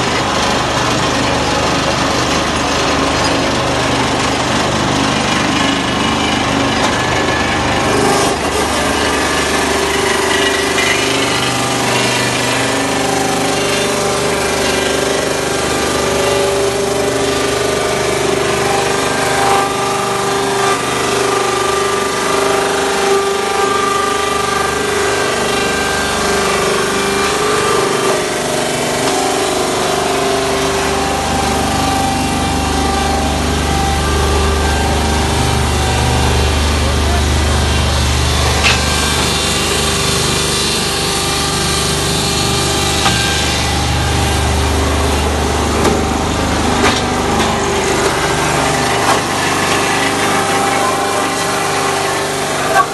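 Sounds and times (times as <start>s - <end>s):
machine grinding wood logs: 0.0s - 52.9s
steady machine drone: 0.0s - 52.9s.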